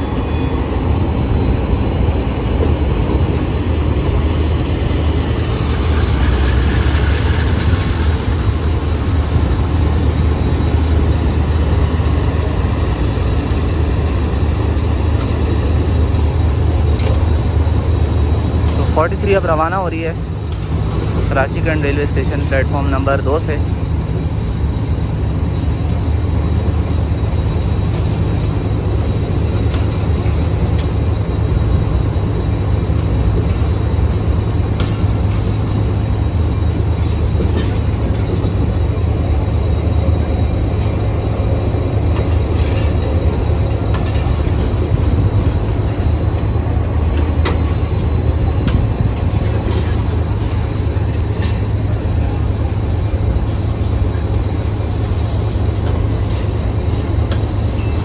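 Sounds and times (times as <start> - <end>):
diesel locomotive engine droning: 0.0 - 58.0
train clicks and clanks: 0.0 - 58.0.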